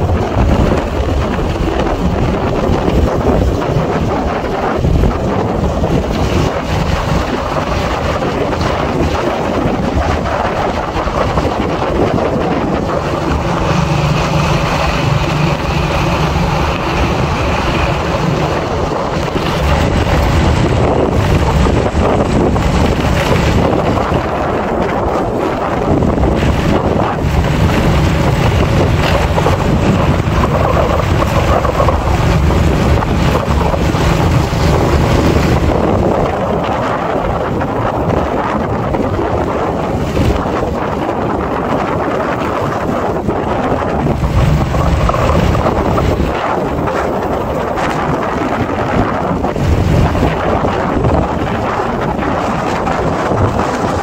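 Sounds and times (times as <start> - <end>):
motorcycle engine running: 0.0 - 37.4, 42.3 - 54.0
wind rushing over microphone: 0.0 - 54.0.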